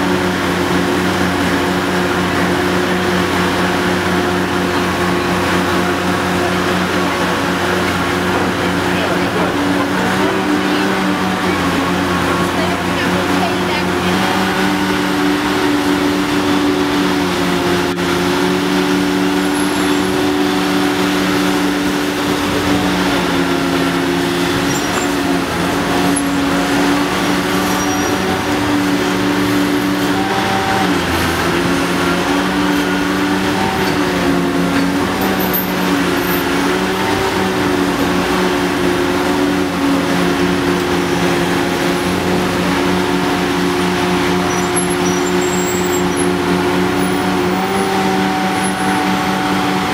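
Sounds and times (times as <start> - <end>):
excavator diesel engine droning: 0.0 - 49.9.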